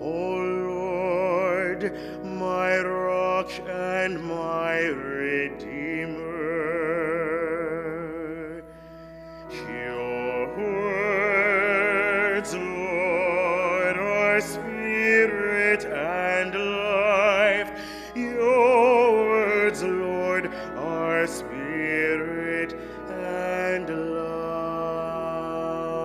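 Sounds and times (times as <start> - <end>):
held accompaniment chords: 0.0 - 26.0
person singing with vibrato: 0.0 - 26.0.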